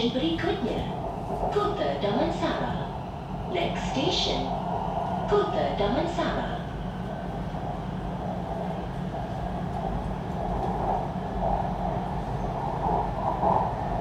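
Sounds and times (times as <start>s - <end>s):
low hum: 0.0s - 14.0s
train rolling rumble: 0.0s - 14.0s.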